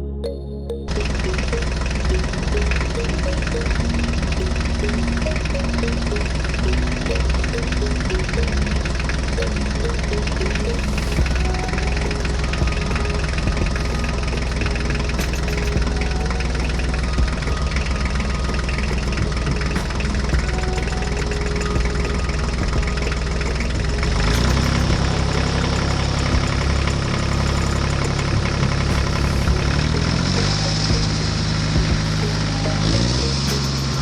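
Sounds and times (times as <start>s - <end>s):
engine idling with knocking: 1.0s - 34.0s.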